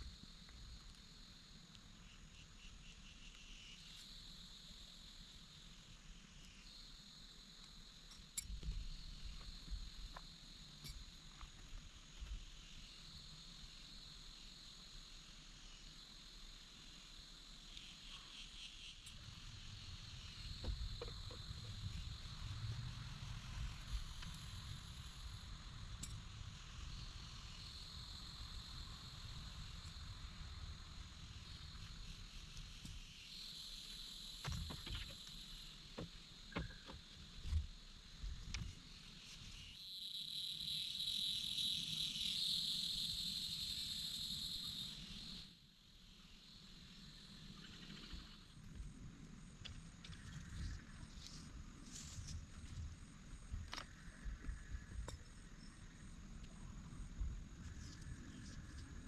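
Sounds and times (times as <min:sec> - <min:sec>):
insects buzzing chorus: 0:00.0 - 0:59.0.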